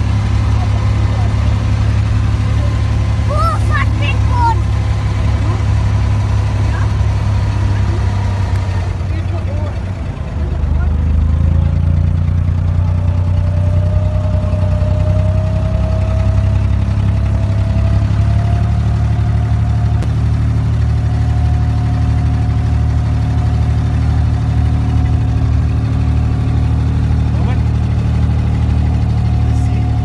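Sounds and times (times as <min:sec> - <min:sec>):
boat diesel engine droning: 0:00.0 - 0:30.0
engine whine: 0:00.0 - 0:30.0.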